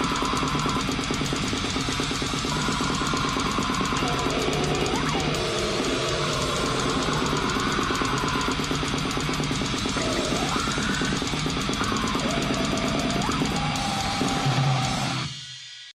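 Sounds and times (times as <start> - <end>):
fast dense drumming: 0.0 - 15.3
distorted guitars: 0.0 - 15.9.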